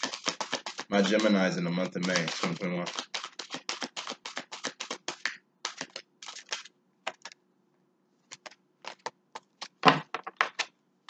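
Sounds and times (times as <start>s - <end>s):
cards being shuffled: 0.0s - 7.4s, 8.3s - 10.7s.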